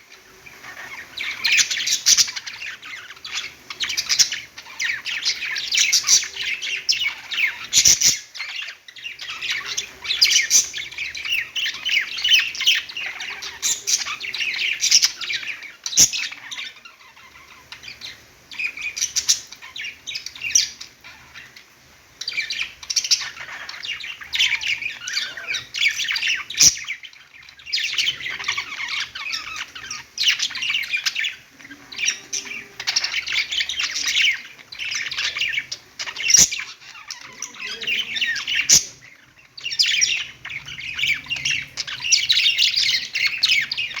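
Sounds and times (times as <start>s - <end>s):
budgerigars chattering and chirping: 0.0s - 44.0s.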